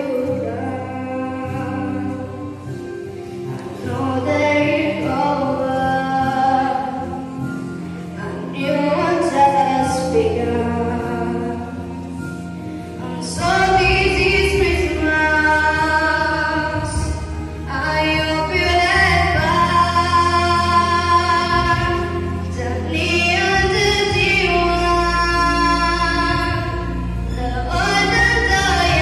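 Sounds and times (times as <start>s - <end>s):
children's choir singing: 0.0s - 12.4s, 13.0s - 29.0s.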